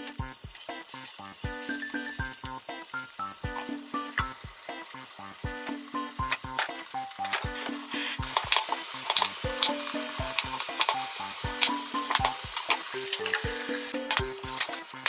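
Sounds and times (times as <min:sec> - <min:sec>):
background music with steady beat: 0:00.0 - 0:15.0
food sizzling in frying pan: 0:00.0 - 0:15.0.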